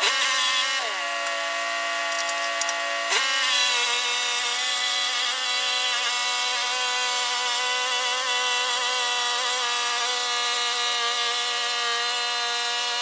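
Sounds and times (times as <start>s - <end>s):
saw cutting boards: 0.0s - 13.0s.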